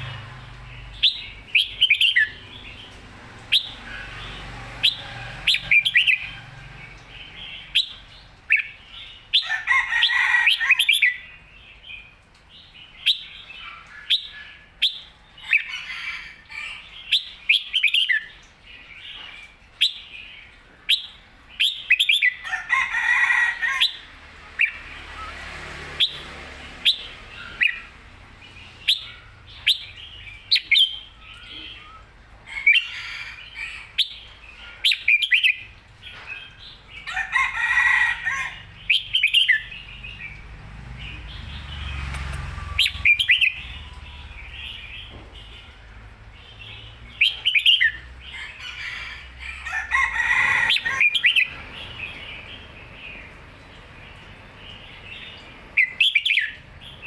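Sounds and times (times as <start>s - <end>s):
bird chirping and warbling song: 0.0s - 22.5s, 23.1s - 57.0s.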